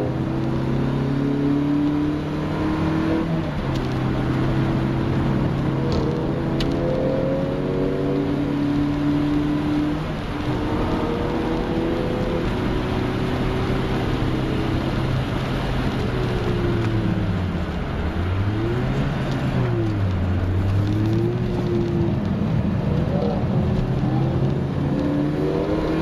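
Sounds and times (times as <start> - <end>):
car engine running under load: 0.0 - 26.0
tyre and road noise: 0.0 - 26.0.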